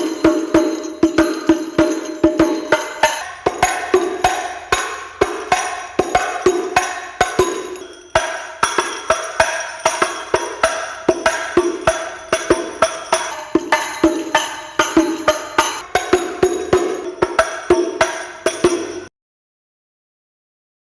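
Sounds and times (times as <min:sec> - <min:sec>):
frame drums played by hand: 0:00.0 - 0:19.1.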